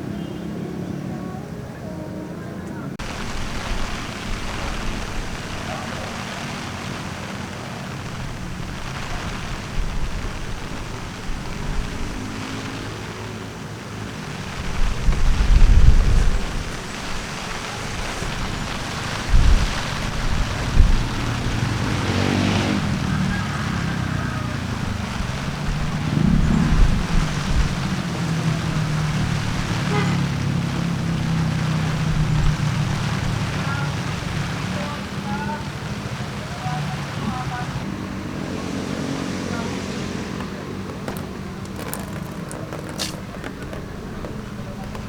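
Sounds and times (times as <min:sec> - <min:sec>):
vehicles passing on highway: 0:00.0 - 0:45.0
wind buffeting microphone: 0:03.0 - 0:34.7, 0:40.2 - 0:45.0.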